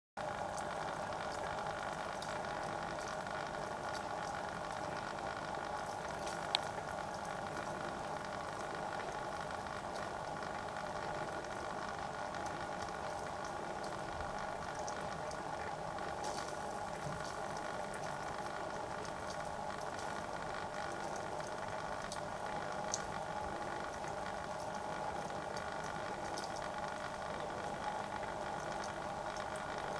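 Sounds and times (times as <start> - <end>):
faint ticks: 0.2 - 29.9.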